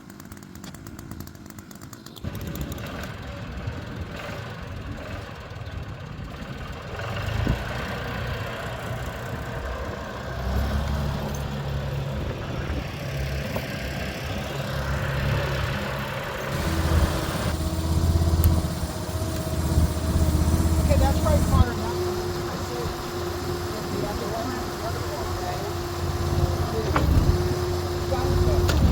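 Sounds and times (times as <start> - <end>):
skid steer engine running: 0.0 - 28.9.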